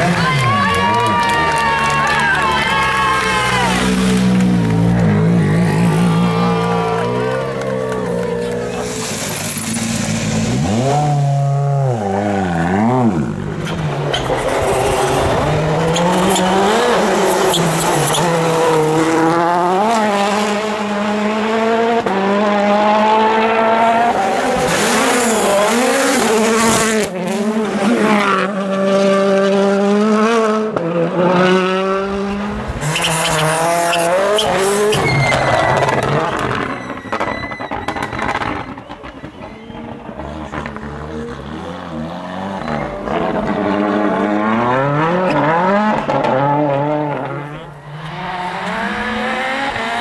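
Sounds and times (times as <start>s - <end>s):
rally car engine revving: 0.0s - 50.0s.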